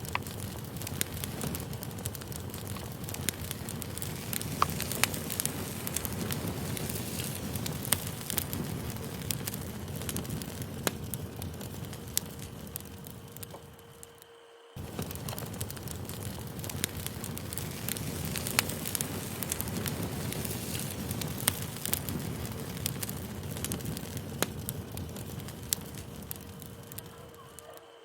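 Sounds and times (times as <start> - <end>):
low rush of flame: 0.0 - 14.2, 14.8 - 27.6
burning wood crackling and popping: 0.0 - 28.0.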